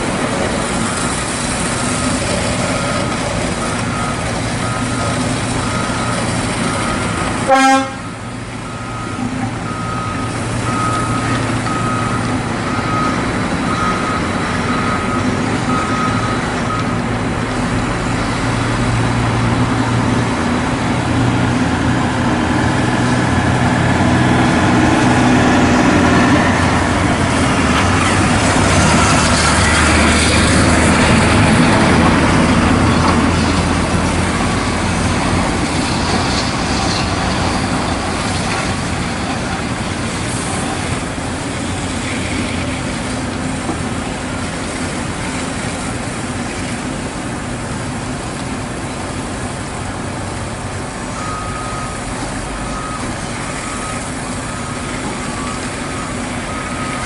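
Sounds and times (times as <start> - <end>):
diesel truck engine running: 0.0 - 57.0
water jet hissing and splashing: 0.0 - 57.0.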